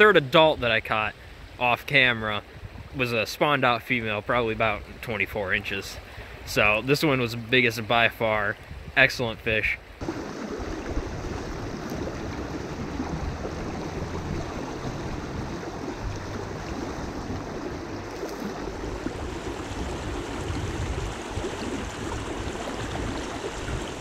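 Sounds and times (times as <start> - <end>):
water rushing over rocks: 3.0 - 24.0.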